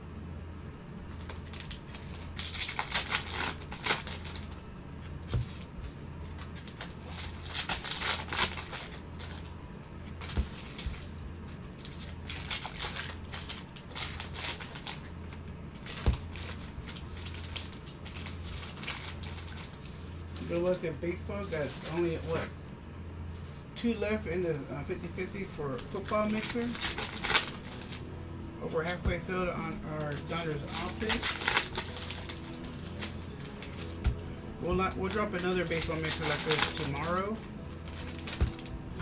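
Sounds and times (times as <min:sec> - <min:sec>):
low steady hum: 0:00.0 - 0:39.0
foil wrapping crinkling: 0:01.1 - 0:22.6, 0:25.0 - 0:39.0.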